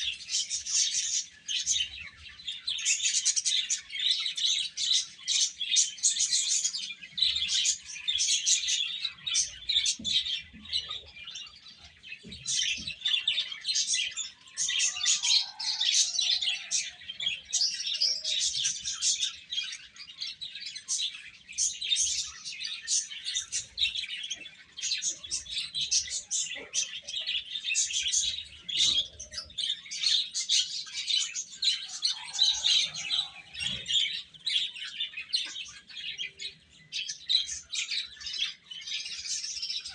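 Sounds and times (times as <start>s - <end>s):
baby chicks peeping: 0.0s - 39.9s
soft low chick calls: 0.0s - 39.9s.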